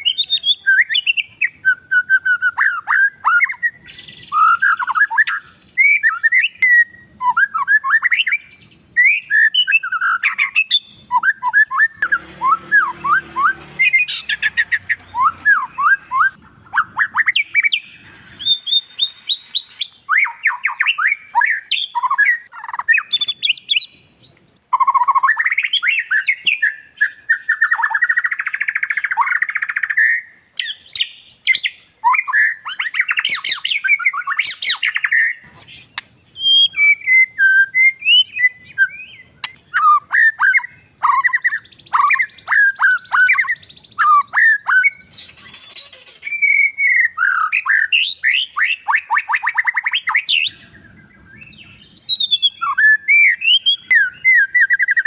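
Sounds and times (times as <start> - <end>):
songbird whistling and chattering: 0.0 - 55.0.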